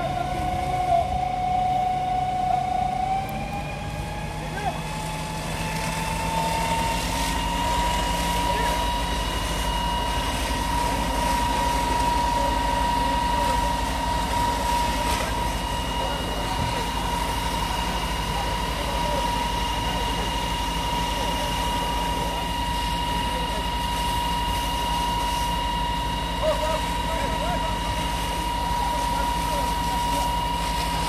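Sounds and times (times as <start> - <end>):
fire truck pump engine whining: 0.0 - 31.0
hose water spraying: 5.0 - 31.0.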